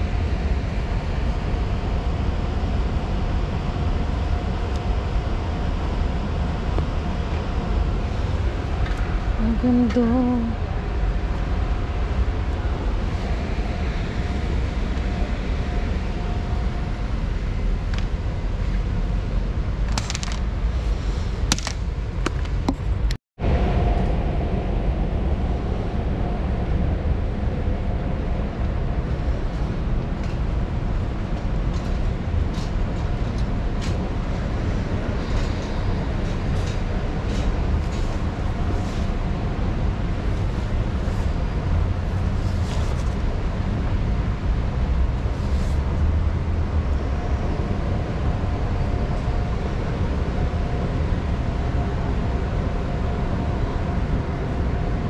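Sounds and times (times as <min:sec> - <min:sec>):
store background rumble: 0:00.0 - 0:55.0.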